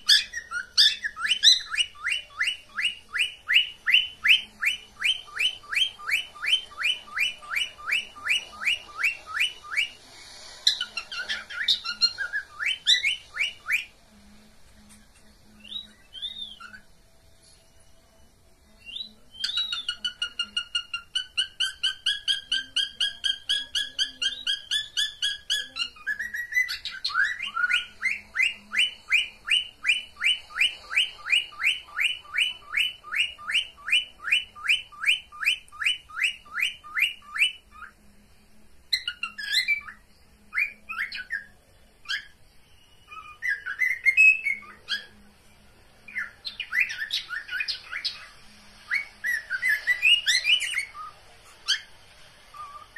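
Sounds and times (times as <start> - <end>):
cockatiel whistling: 0.0 - 10.0, 10.6 - 14.0, 15.6 - 16.9, 18.8 - 38.0, 38.9 - 45.2, 46.1 - 51.9, 52.5 - 52.9
cockatiel chirping: 0.0 - 14.0, 14.9 - 17.0, 18.8 - 38.0, 38.9 - 42.4, 43.0 - 45.2, 46.1 - 51.9, 52.5 - 52.9.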